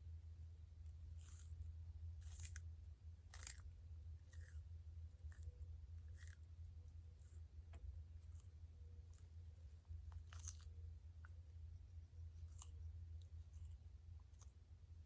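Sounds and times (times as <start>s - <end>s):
tortoise chewing crunchy plants: 0.9s - 14.8s.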